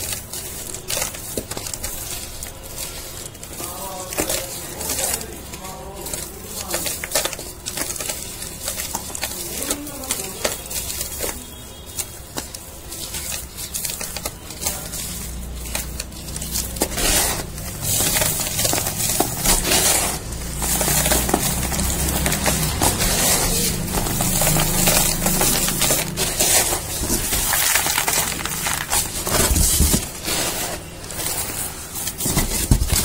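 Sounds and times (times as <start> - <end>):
fingers crushing dry cardboard: 0.0 - 33.0.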